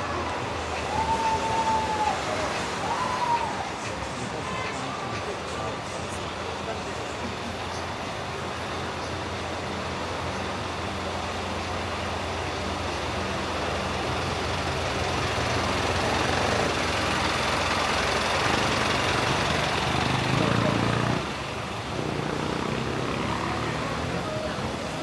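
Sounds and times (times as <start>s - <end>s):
engine hum: 0.0s - 25.0s
road noise: 0.0s - 25.0s.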